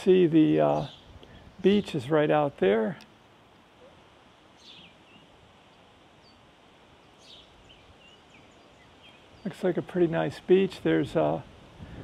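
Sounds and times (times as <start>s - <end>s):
faint birds chirping: 0.0s - 12.0s
quiet outdoor background noise: 0.0s - 12.0s.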